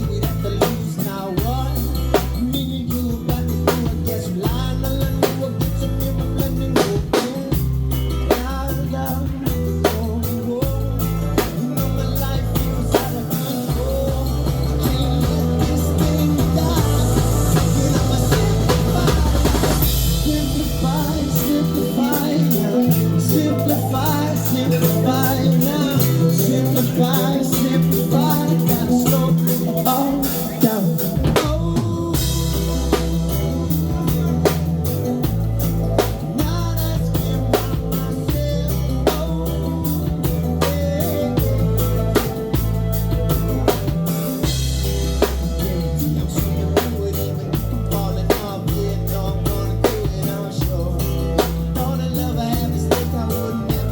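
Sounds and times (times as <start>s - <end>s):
bass line: 0.0s - 53.9s
drum kit beat with rimshots: 0.0s - 53.9s
melodic guitar lines: 0.0s - 53.9s.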